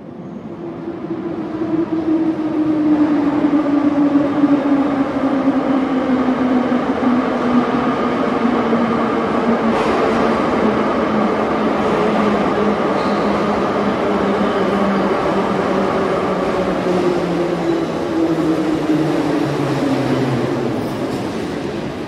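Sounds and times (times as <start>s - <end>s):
train cars rumbling on track: 0.0s - 22.0s.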